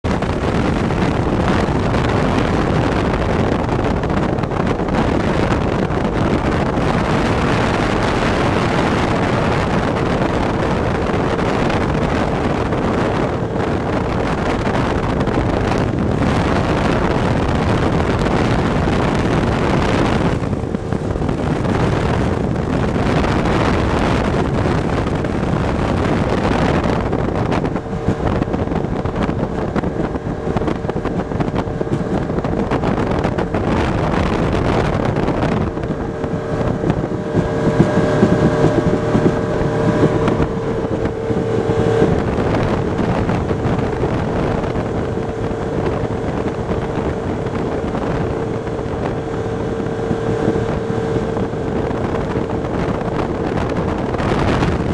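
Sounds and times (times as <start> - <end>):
motorboat engine: 0.0 - 54.9
water noise: 0.0 - 54.9
wind buffeting microphone: 0.0 - 54.9.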